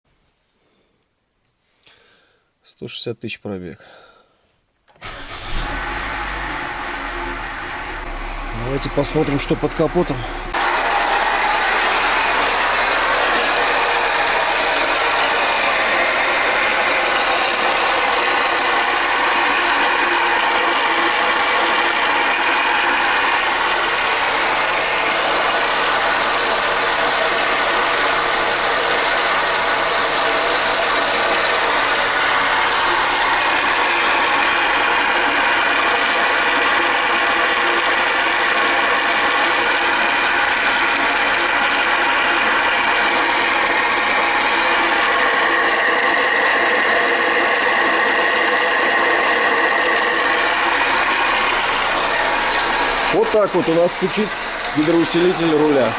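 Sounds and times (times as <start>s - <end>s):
car engine idling: 4.9s - 55.9s.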